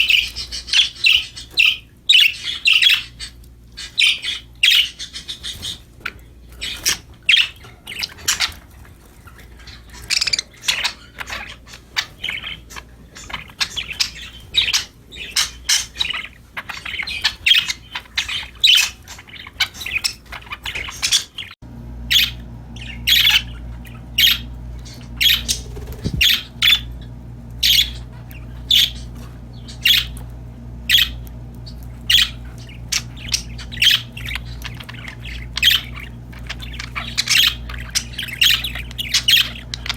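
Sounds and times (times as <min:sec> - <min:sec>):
budgerigars chirping and squawking: 0:00.0 - 0:39.9
steady low hum: 0:00.0 - 0:39.9.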